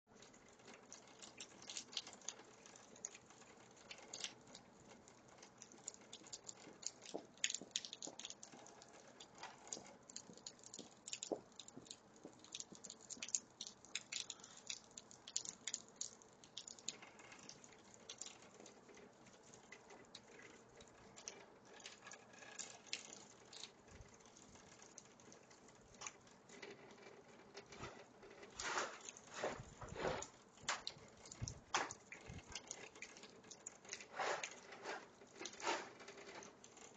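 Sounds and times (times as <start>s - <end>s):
faint pattering taps and clicks: 0.1s - 36.9s.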